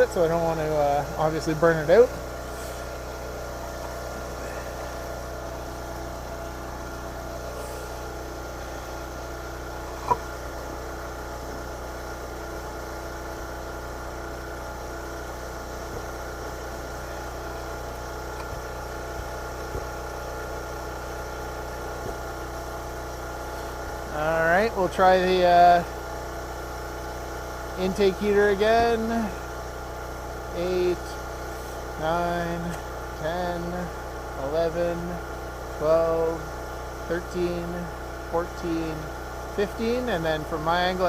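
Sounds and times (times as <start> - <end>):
generator engine humming: 0.0 - 41.0.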